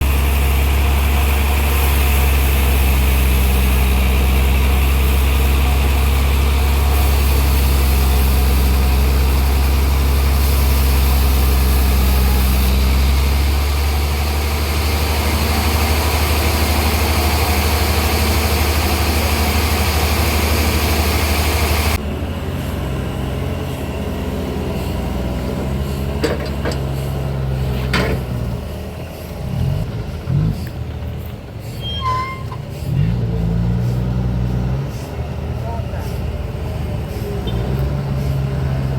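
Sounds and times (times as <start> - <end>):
sawmill engine humming: 0.0 - 38.9.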